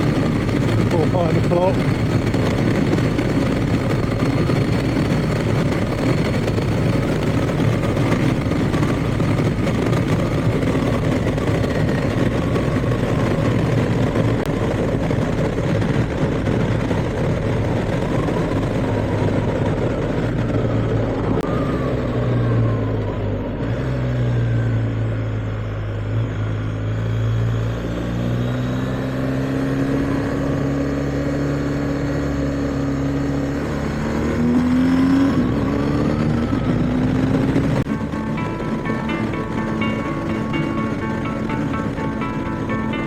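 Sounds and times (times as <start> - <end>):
motorcycle engine running: 0.0 - 21.6, 27.6 - 43.0
wind noise on microphone: 0.0 - 23.6, 28.2 - 43.0.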